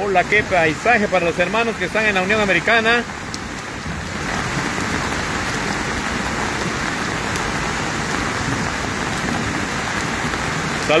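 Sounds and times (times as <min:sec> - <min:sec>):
flooded river rushing: 0:00.0 - 0:11.0
heavy rain falling: 0:00.0 - 0:11.0.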